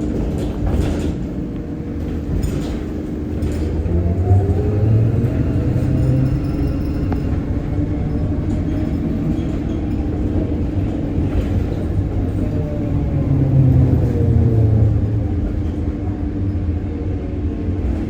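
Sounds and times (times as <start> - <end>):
trolleybus rumble: 0.0 - 18.0.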